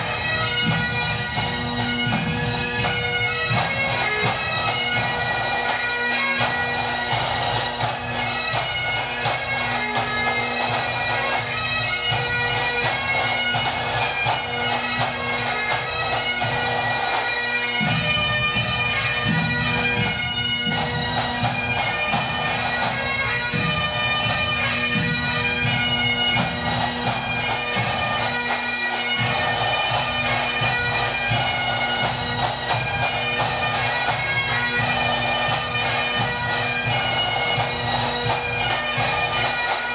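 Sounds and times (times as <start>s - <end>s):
bagpipe band playing a march: 0.0s - 39.9s
drumming: 0.0s - 39.9s.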